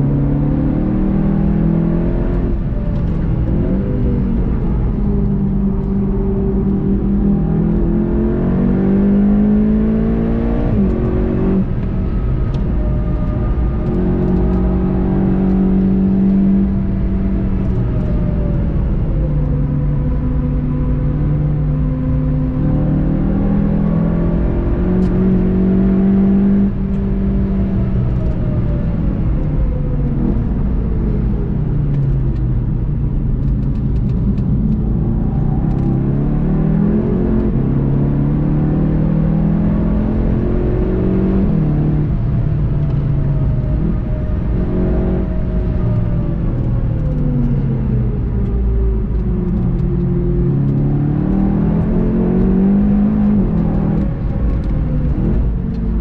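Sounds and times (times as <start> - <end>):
car engine revving: 0.0 - 56.0
road and tyre noise: 0.0 - 56.0.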